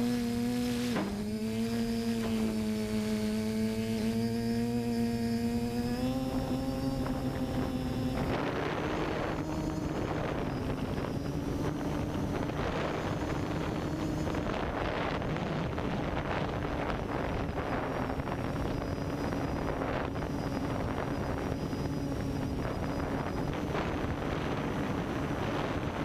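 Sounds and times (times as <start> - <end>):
drone motors humming: 0.0 - 26.0
wind noise on microphone: 0.0 - 26.0.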